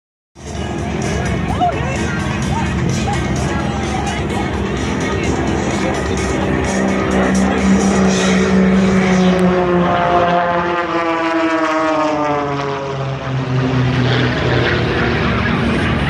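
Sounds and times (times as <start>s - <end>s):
propeller plane engine passing: 0.4s - 16.0s.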